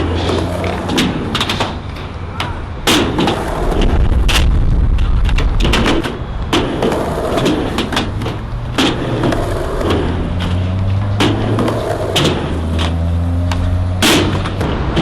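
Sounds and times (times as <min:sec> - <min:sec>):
skateboard clacks and knocks: 0:00.0 - 0:15.0
skateboards rolling on concrete: 0:00.0 - 0:15.0.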